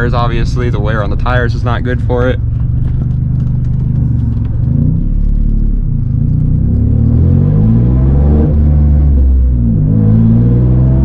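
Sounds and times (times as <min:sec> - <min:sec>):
car engine and exhaust revving: 0:00.0 - 0:11.0.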